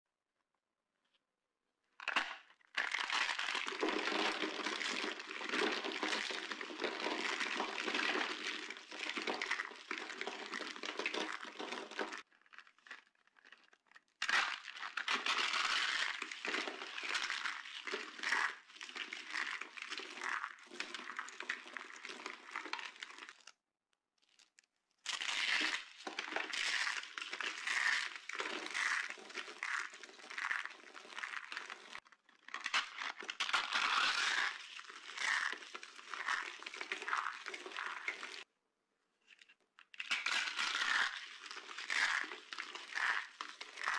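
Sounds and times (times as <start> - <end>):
soap flakes crunching in hands: 2.2 - 23.6, 24.2 - 38.5, 39.9 - 43.9.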